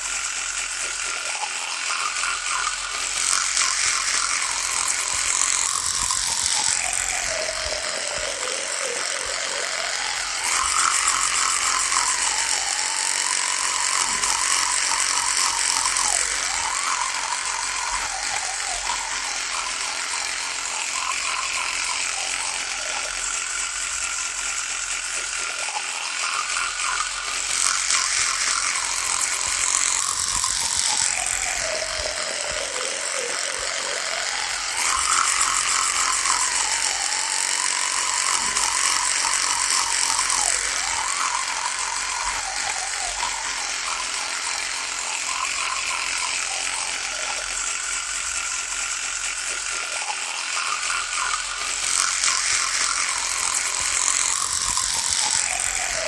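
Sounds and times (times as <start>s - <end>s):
electric toothbrush buzzing: 0.0s - 56.0s.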